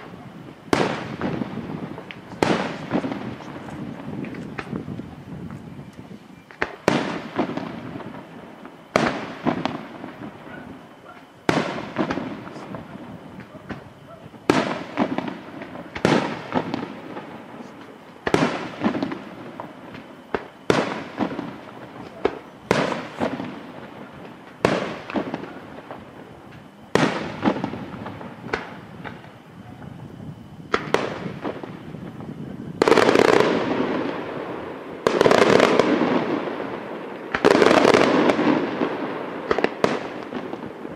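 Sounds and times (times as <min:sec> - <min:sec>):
firework shells bursting: 0:00.0 - 0:40.9.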